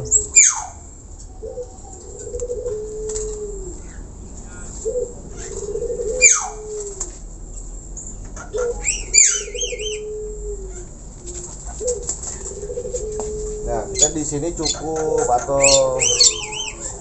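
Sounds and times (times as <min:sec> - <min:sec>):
low wavering bird calls: 0:00.0 - 0:07.2, 0:07.9 - 0:17.0.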